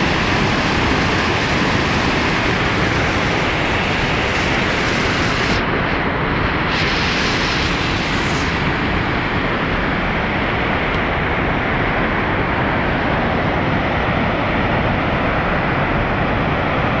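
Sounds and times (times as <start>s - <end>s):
roar of rushing water: 0.0s - 17.0s.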